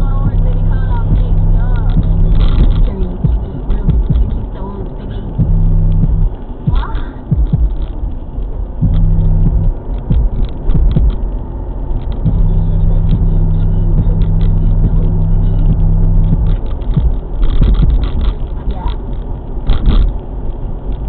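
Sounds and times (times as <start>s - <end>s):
rap music on car stereo: 0.0s - 21.0s
road noise: 0.0s - 21.0s.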